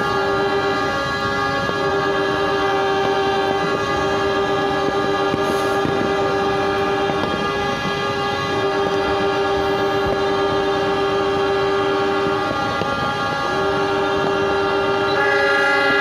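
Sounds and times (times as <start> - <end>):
locomotive air horns blowing: 0.0 - 16.0.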